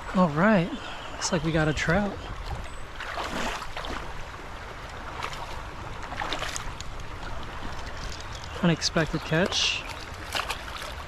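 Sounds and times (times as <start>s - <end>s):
creek water running: 0.0s - 11.0s
wind rumbling on microphone: 0.8s - 11.0s.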